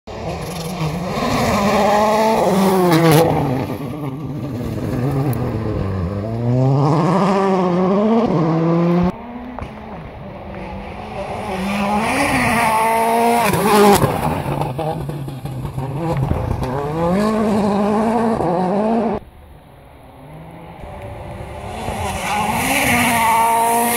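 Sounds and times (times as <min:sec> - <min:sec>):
rally car engine revving: 0:00.1 - 0:19.2, 0:20.1 - 0:23.9.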